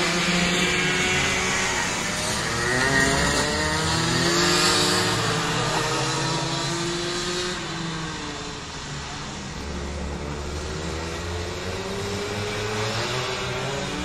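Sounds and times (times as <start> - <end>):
racing kart engines accelerating: 0.0 - 14.0.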